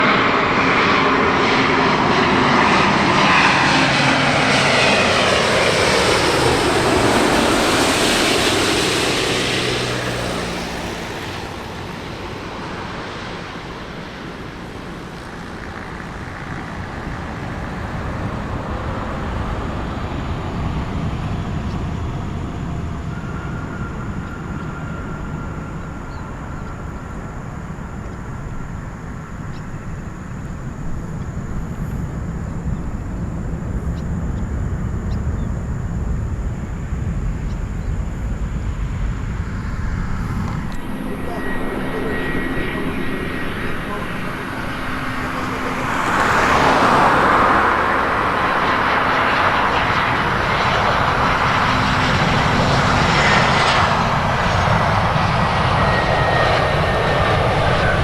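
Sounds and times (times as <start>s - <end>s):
airliner passing: 0.0s - 58.0s.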